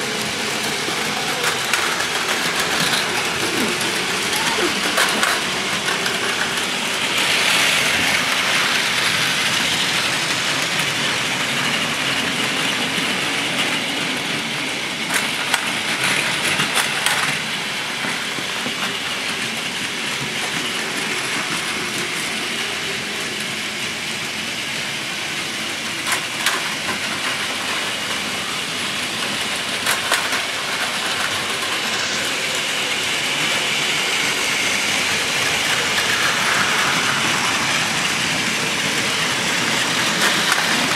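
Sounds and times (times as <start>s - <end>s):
toy trains whirring and rattling: 0.0s - 40.9s.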